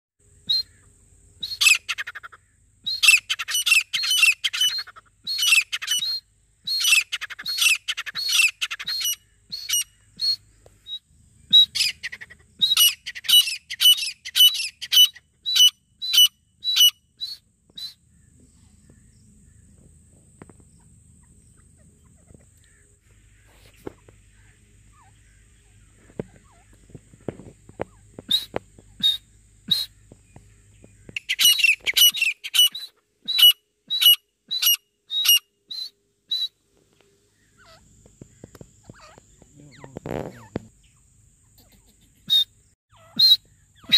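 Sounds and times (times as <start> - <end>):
faint low hum: 0.2 - 32.2, 35.4 - 43.9
francolin calling: 0.2 - 43.9.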